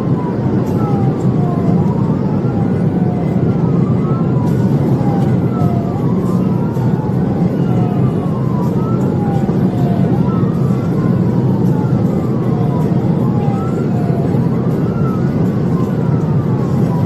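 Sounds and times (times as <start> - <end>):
car road and engine noise: 0.0 - 17.0
police siren wailing: 0.0 - 17.0.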